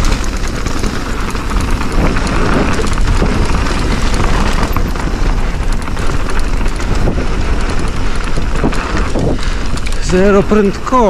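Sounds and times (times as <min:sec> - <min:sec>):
bike rattling and clicking: 0:00.0 - 0:11.0
tyres rumbling over dirt: 0:00.0 - 0:11.0.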